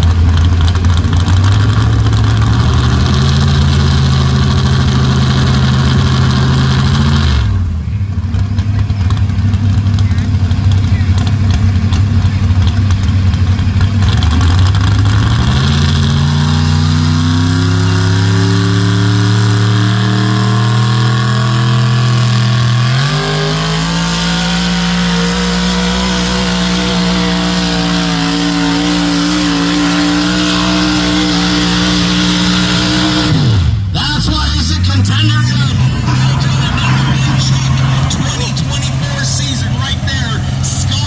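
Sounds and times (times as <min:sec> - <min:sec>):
engine running hard under load: 0:00.0 - 0:41.0.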